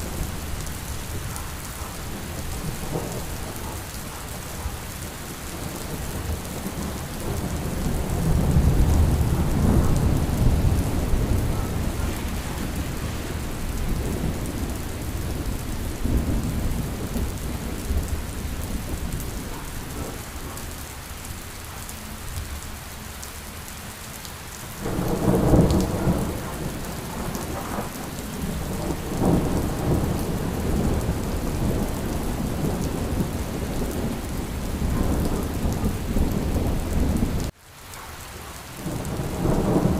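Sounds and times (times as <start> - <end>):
rolling thunder: 0.0 - 20.6, 24.8 - 37.5, 38.8 - 39.9
steady rain falling: 0.0 - 39.9.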